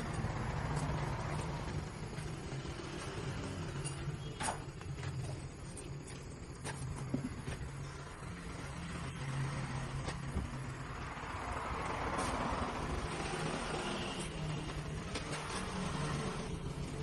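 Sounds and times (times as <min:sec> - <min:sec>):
motor vehicle running: 0:00.0 - 0:17.0.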